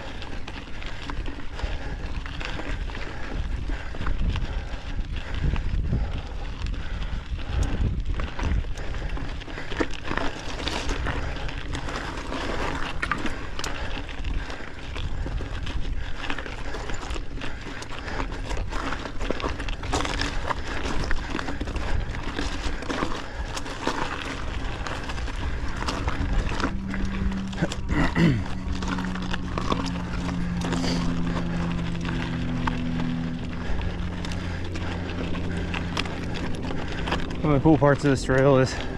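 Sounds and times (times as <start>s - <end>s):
bike rattling: 0.0s - 38.9s
rider breathing hard: 0.0s - 38.9s
tyres crunching over loose rock: 0.0s - 38.9s
wind rumbling on microphone: 0.0s - 38.9s.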